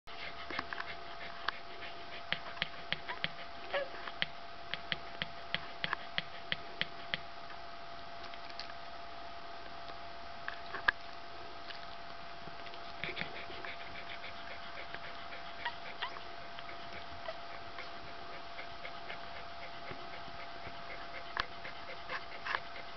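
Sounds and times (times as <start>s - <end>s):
faint steady hum: 0.1s - 22.9s.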